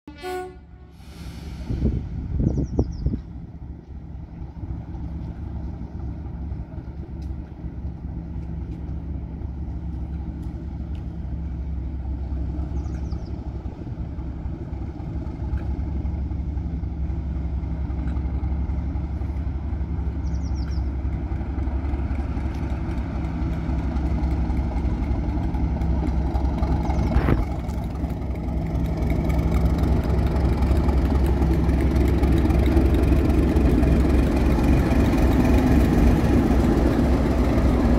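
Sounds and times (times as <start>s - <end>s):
diesel locomotive engine running: 0.1s - 37.9s.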